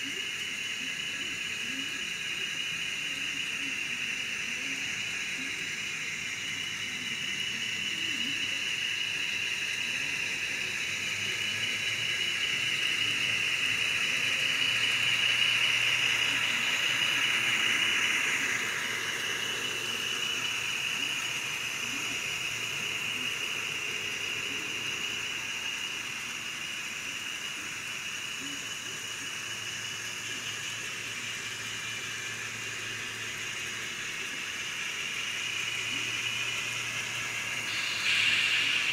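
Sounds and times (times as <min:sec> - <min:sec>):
model train wheels on rail: 0:00.0 - 0:38.9.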